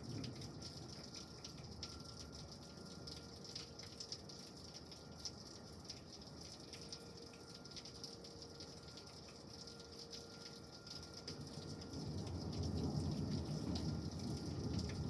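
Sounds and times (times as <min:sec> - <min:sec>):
faint steady hiss: 0:00.0 - 0:15.0
rain falling steadily: 0:00.0 - 0:15.0
water drips and taps: 0:00.0 - 0:15.0.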